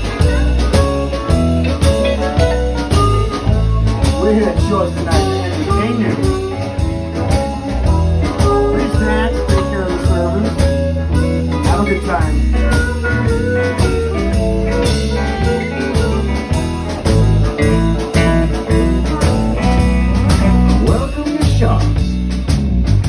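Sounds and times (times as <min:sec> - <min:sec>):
blues guitar with bending notes: 0:00.0 - 0:23.0
drum beat: 0:00.0 - 0:23.0
steady bass line: 0:00.0 - 0:23.0.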